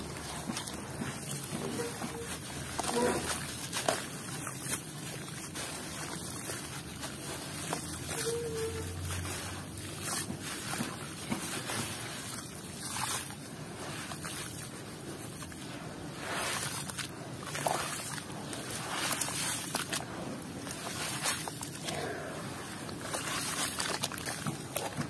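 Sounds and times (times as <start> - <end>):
hands squishing muddy slurry: 0.0 - 25.0.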